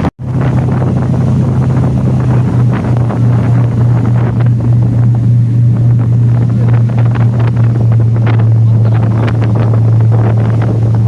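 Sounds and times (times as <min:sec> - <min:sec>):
ferry engine droning: 0:00.0 - 0:11.0
wind buffeting microphone: 0:00.0 - 0:11.0.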